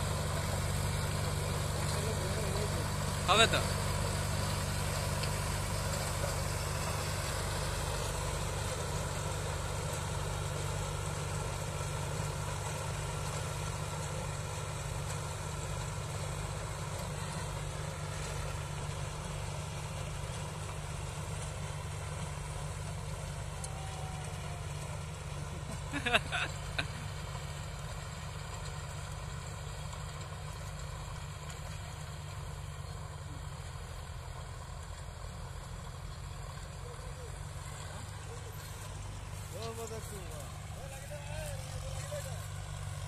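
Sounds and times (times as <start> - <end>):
diesel tractor engines droning: 0.0 - 43.0
rotary tillers churning soil: 0.0 - 43.0.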